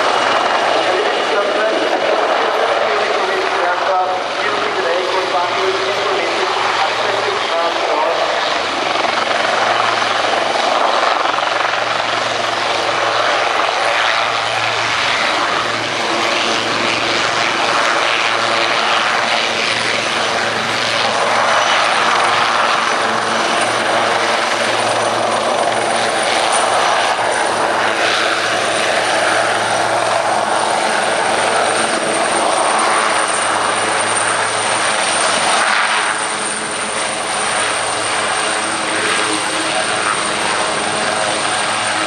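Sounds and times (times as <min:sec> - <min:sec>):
helicopter rotor and engine noise: 0:00.0 - 0:42.0.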